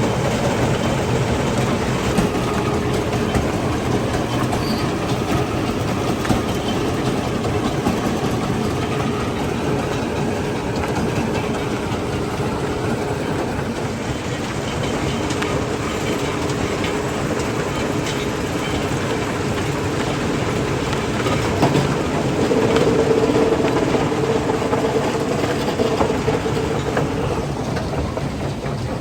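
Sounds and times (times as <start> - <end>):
crushing machinery rumbling: 0.0 - 29.0.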